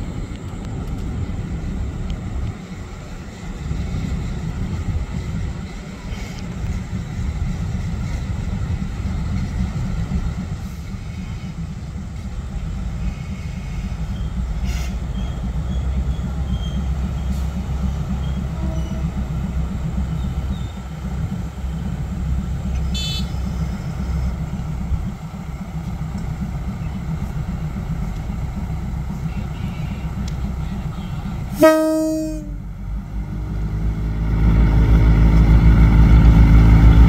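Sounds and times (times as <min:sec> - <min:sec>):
diesel train rumbling: 0:00.0 - 0:37.0.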